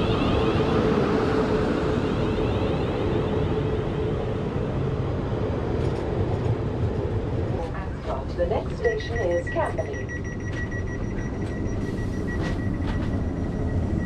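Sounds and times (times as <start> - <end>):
electric train rolling past: 0.0 - 14.0
train hum: 0.0 - 14.0.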